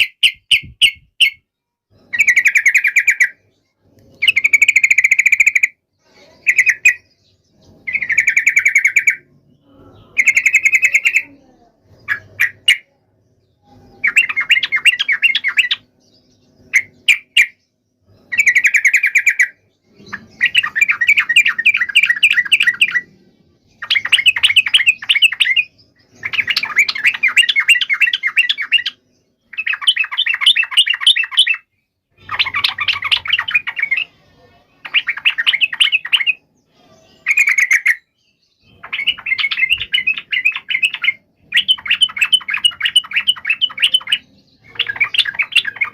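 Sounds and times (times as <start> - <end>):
bulbul chattering song: 0.0 - 45.9.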